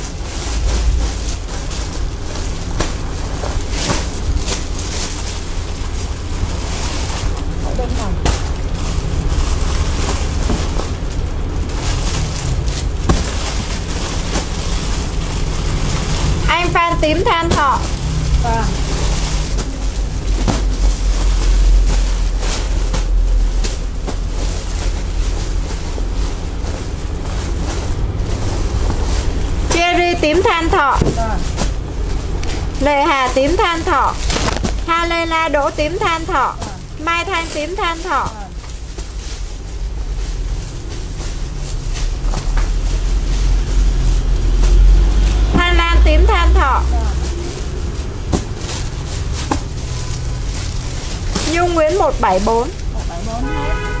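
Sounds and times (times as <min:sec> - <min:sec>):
low handling rumble: 0:00.0 - 0:53.5
fabric rustling against microphone: 0:00.0 - 0:54.0
plastic bag crinkling: 0:00.0 - 0:54.0.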